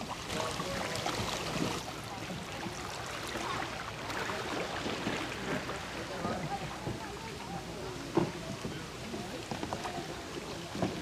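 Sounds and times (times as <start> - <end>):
paddles dipping through water: 0.0 - 11.0
water splashing and rippling: 0.0 - 11.0.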